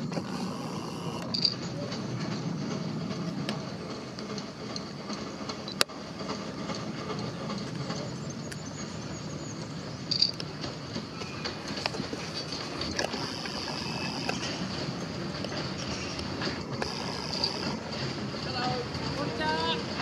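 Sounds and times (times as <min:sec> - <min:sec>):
steam train rumbling on track: 0:00.0 - 0:20.0.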